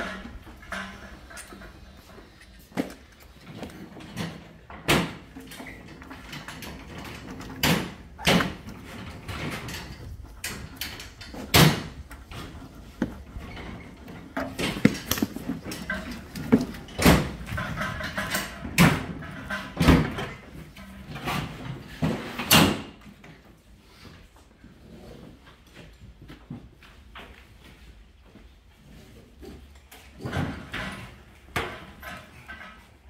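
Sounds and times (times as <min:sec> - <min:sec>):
objects knocking and clunking: 0:00.0 - 0:23.5, 0:29.4 - 0:33.0.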